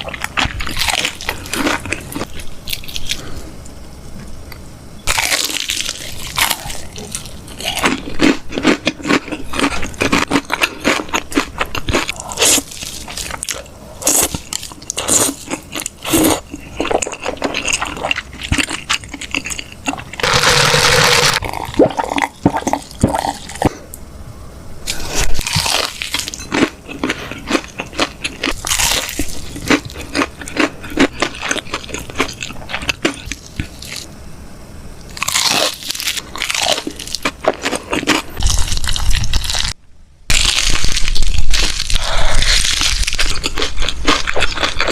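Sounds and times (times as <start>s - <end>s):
crunchy chewing of chicken: 0.0s - 3.4s, 5.0s - 23.8s, 24.9s - 34.1s, 35.1s - 44.9s.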